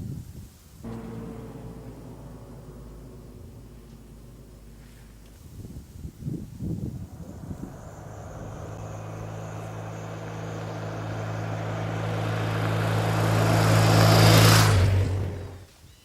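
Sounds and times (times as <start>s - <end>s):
truck driving past: 0.8s - 6.0s, 6.8s - 15.6s.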